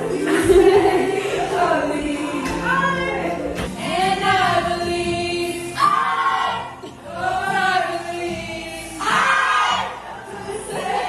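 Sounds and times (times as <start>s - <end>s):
group singing pop song: 0.0s - 11.0s.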